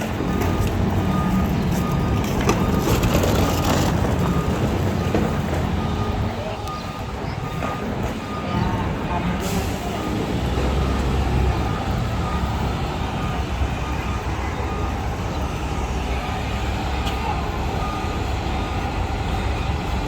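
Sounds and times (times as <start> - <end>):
heavy vehicle traffic rumble: 0.0 - 20.0.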